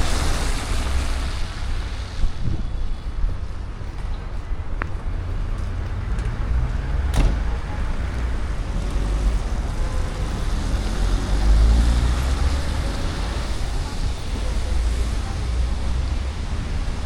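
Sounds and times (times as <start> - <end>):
cars passing on wet road: 0.0 - 17.0.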